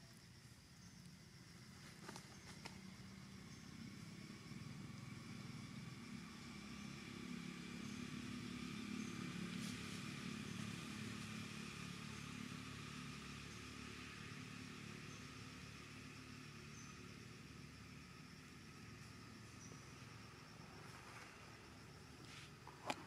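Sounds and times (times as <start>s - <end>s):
distant vehicle engine rumble: 1.5s - 23.0s.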